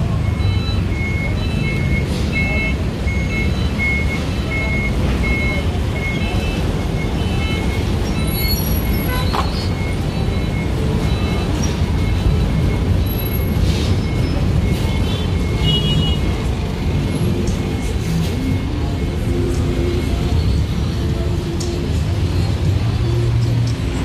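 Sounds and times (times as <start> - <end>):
crowd noise: 0.0 - 24.0
electronic beeps: 0.0 - 24.0
traffic rumble: 0.0 - 24.0.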